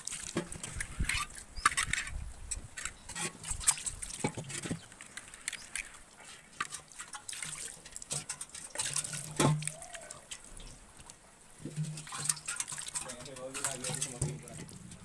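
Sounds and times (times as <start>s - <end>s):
water splashing over iron pan: 0.0s - 2.1s, 3.1s - 15.0s.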